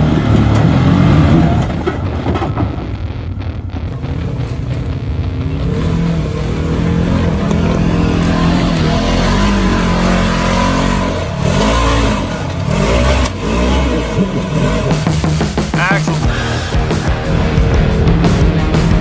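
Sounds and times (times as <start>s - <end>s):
utility vehicle engine revving: 0.0s - 19.0s.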